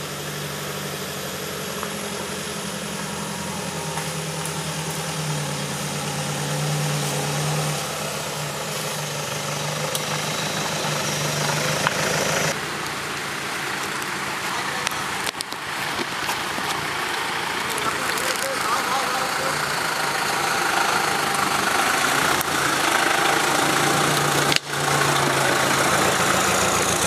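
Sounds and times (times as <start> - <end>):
engine running at low revs: 0.0 - 27.0.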